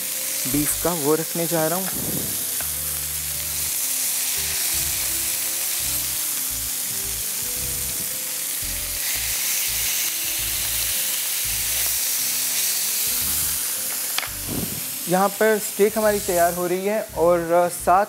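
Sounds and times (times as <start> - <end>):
steaks sizzling in grill pan: 0.0 - 18.0.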